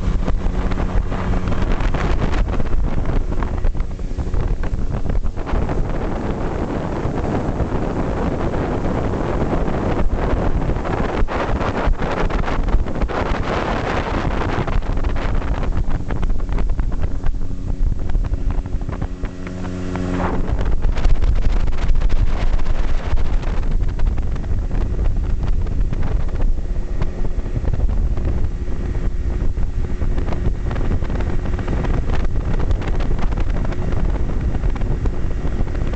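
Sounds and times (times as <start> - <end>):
outboard motor running: 0.0 - 35.9
wind buffeting microphone: 0.0 - 35.9.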